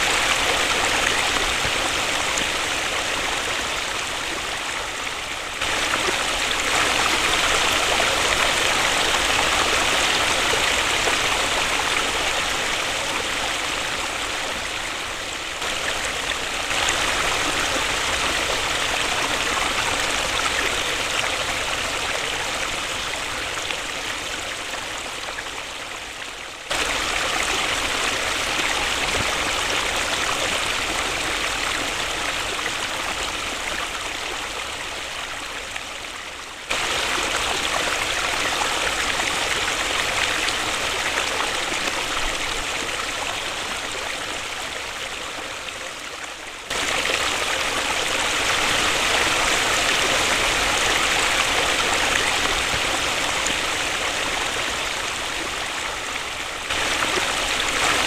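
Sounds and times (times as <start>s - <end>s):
waterfall rushing: 0.0s - 25.0s, 26.7s - 35.3s, 36.7s - 58.0s.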